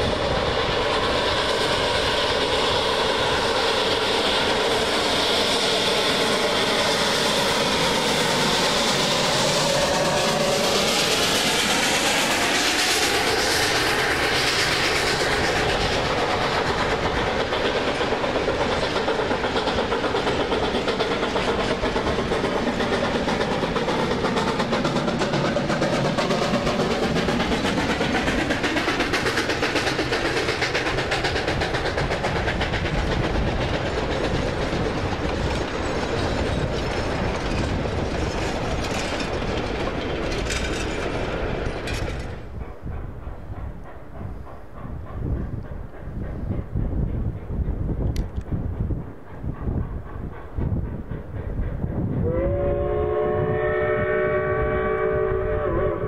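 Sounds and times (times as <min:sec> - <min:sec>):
steam train running: 0:00.0 - 0:56.0
wheels clicking over rail joints: 0:05.8 - 0:52.3.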